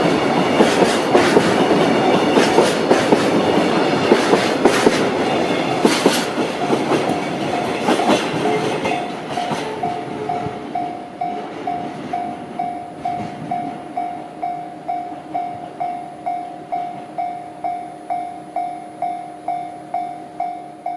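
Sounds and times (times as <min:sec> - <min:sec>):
train wheels clicking on rail joints: 0:00.0 - 0:18.7.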